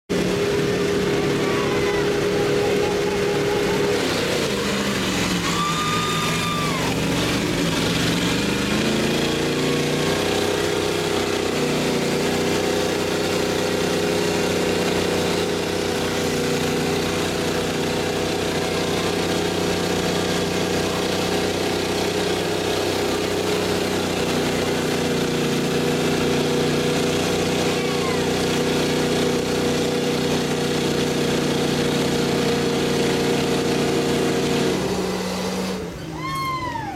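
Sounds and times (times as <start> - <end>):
pickup truck engines running hard: 0.1 - 36.9
tyres spinning in dirt: 2.0 - 36.9.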